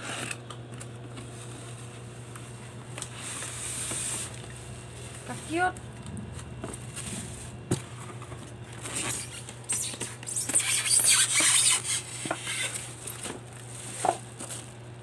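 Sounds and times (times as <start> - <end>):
plastic bag crinkling: 1.2 - 15.0.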